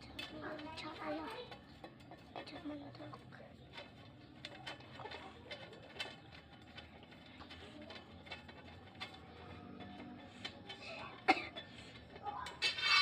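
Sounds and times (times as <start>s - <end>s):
faint background music: 0.0s - 13.0s
steel rack parts clicking: 0.0s - 13.0s.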